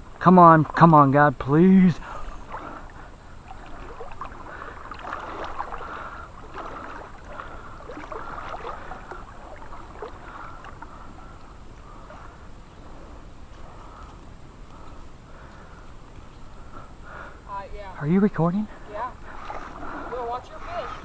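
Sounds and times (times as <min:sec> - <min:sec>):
creek water babbling: 0:00.0 - 0:21.0.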